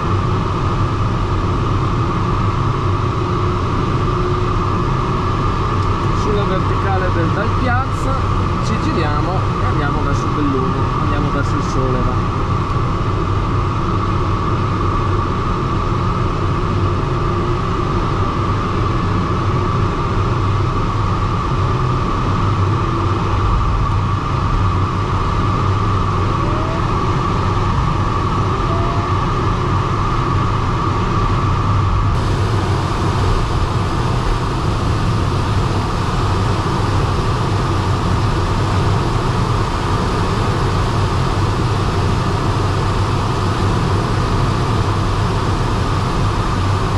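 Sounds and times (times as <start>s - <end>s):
air rushing around glider canopy: 0.0s - 46.9s.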